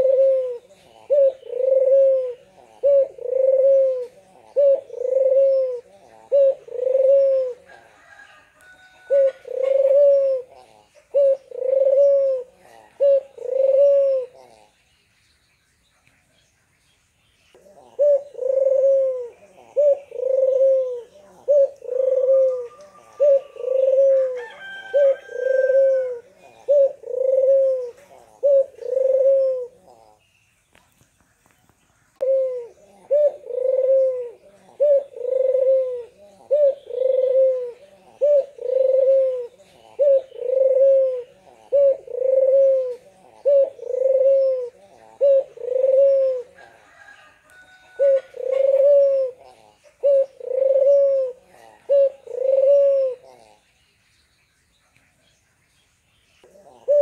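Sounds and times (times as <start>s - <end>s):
dove cooing: 0.0s - 14.9s, 17.5s - 30.2s, 32.2s - 53.8s, 56.4s - 57.0s.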